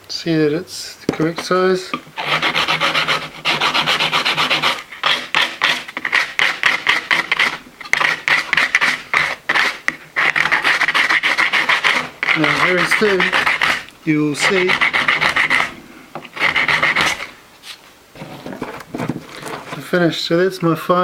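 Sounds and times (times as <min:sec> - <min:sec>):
hand rasp on wood: 0:02.2 - 0:17.4, 0:18.2 - 0:19.9.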